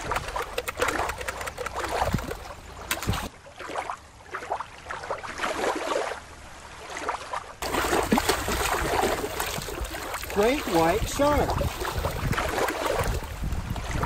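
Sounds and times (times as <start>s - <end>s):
underwater water swishes: 0.0s - 14.0s
water lapping over rocks: 0.0s - 14.0s.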